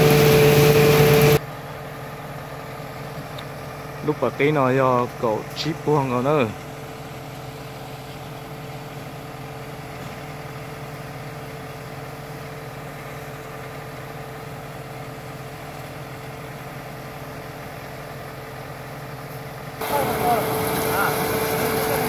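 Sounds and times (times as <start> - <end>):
small engine running: 0.0 - 2.2, 2.9 - 22.0.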